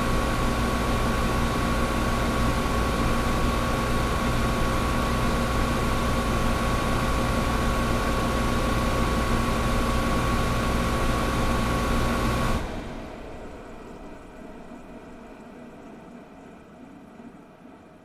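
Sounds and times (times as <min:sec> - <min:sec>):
air conditioner running: 0:00.0 - 0:18.0.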